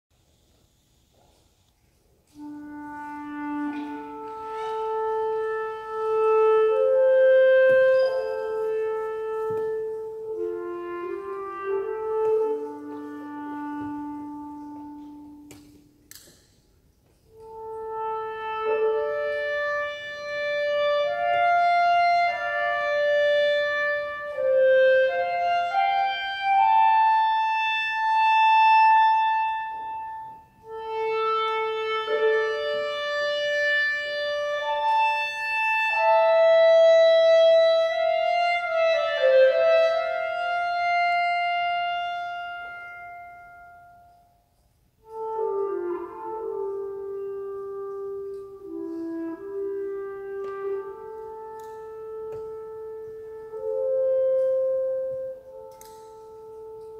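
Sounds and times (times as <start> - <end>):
solo clarinet melody: 0.2 - 16.2, 16.9 - 56.9.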